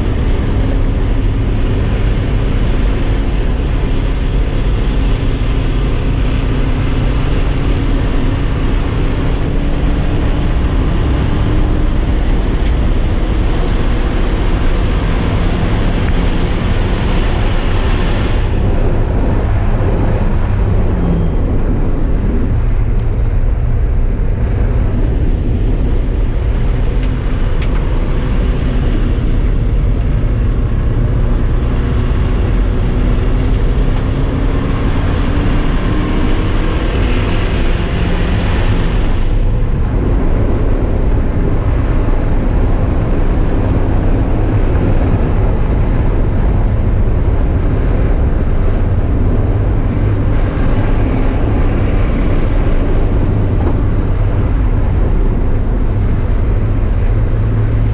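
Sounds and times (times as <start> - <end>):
car engine accelerating: 0.0 - 57.9
road noise: 0.0 - 57.9.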